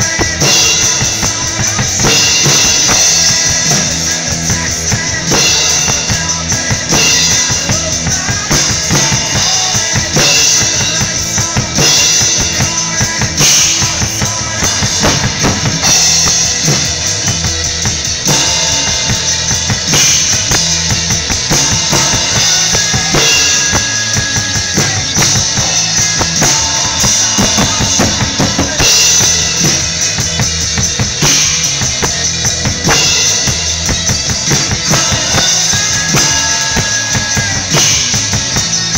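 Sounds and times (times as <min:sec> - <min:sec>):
drum kit rock beat: 0:00.0 - 0:38.9
recorded rock song: 0:00.0 - 0:38.9.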